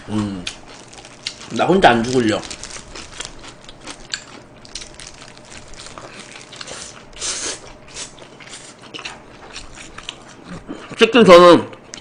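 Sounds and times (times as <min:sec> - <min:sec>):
man chewing food: 0:00.0 - 0:11.1.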